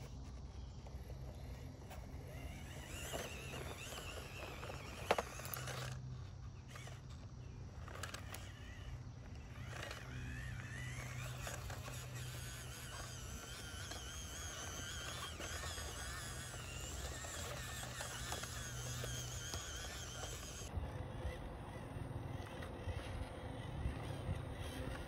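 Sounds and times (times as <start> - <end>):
small electric motor whine: 0.0 - 25.0
steady low hum: 0.0 - 25.0.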